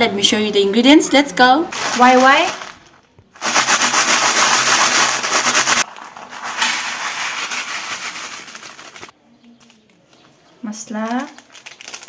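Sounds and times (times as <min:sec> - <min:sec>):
plastic snack packet crinkling: 0:01.7 - 0:12.0.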